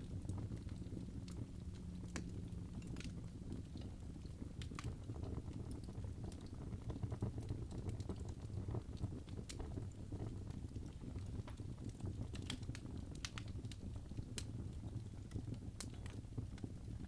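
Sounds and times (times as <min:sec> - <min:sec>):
low rumble of flame: 0:00.0 - 0:17.0
wood fire crackling and popping: 0:00.0 - 0:17.0.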